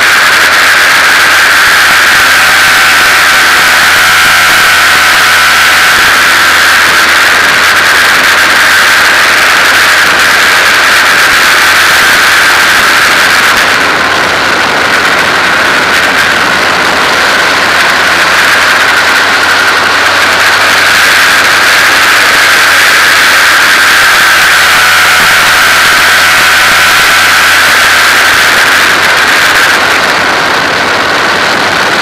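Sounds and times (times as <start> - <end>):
race car engine running: 0.0 - 32.0.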